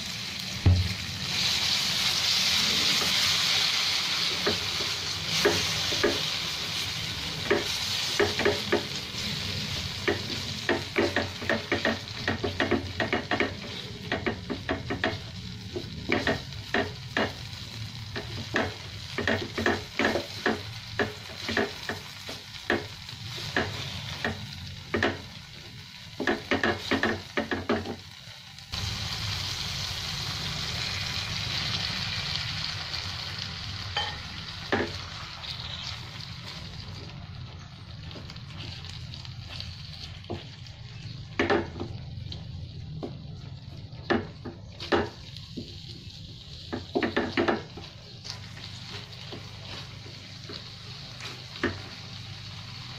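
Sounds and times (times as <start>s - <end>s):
food sizzling in oil: 0.0s - 52.9s.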